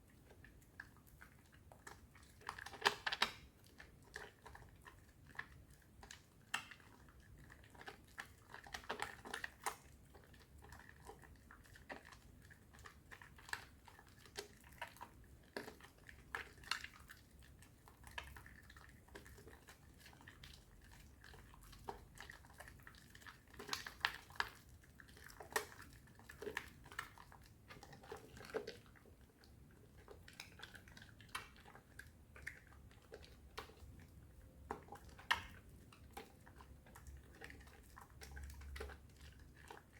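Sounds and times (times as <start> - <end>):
soap lathering in hands: 0.0 - 39.9.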